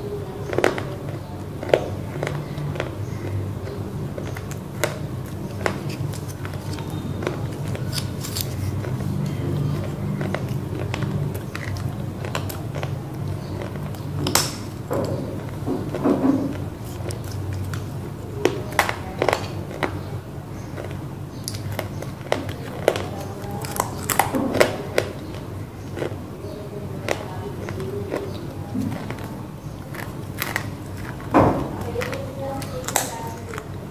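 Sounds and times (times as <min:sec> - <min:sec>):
crunching and chewing: 0:00.0 - 0:33.9.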